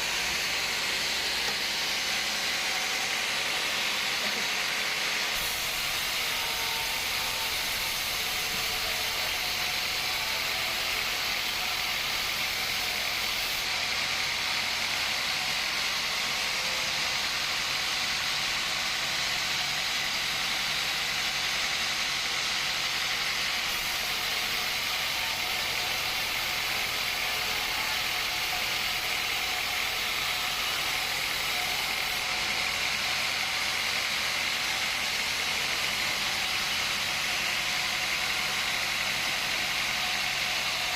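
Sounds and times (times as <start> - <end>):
sawmill machinery whirring: 0.0 - 40.9.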